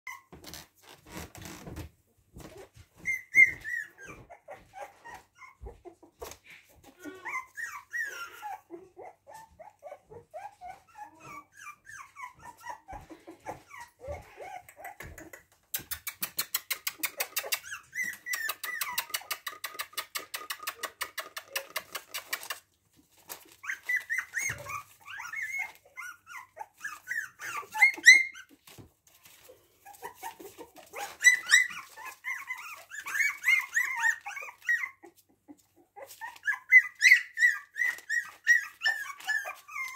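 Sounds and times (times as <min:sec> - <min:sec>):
puppies whining and yelping: 0:00.1 - 0:01.3, 0:02.3 - 0:39.9.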